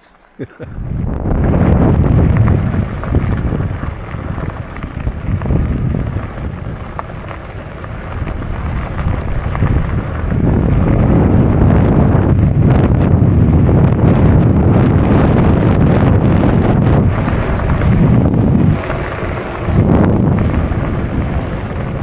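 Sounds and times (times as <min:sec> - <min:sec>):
wind buffeting microphone: 0:00.6 - 0:22.0.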